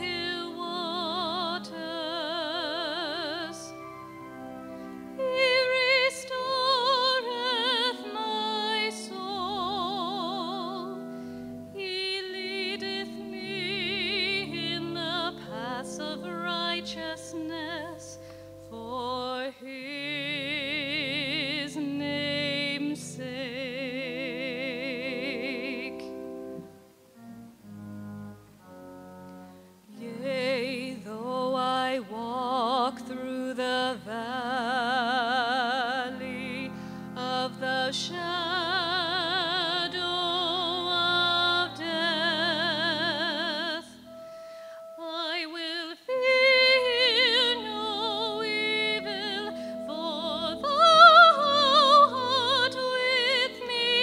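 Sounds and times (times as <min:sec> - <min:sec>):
woman singing classical solo: 0:00.0 - 0:03.9, 0:05.1 - 0:26.6, 0:29.9 - 0:54.0
low sustained accompaniment: 0:00.0 - 0:54.0.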